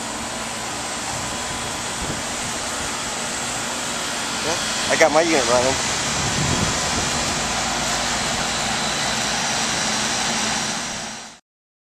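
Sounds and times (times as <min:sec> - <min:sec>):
condenser fan air rush: 0:00.0 - 0:11.4
low hum: 0:00.0 - 0:11.4.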